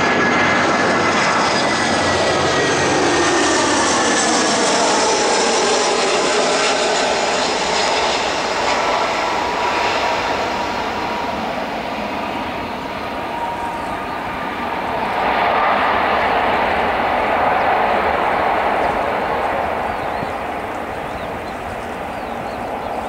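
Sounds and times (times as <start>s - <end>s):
high fan whine: 0.0s - 23.0s
jet engine rushing: 0.0s - 23.0s.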